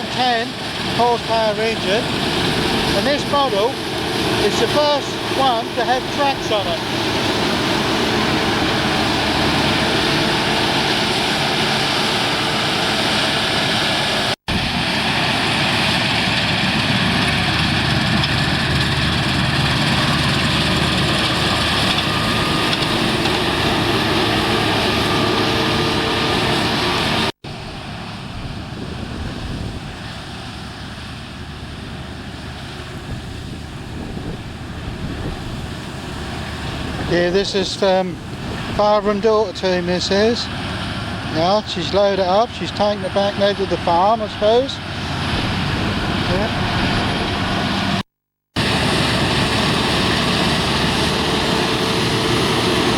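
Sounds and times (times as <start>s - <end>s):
combine harvester running: 0.0s - 48.0s, 48.6s - 52.9s.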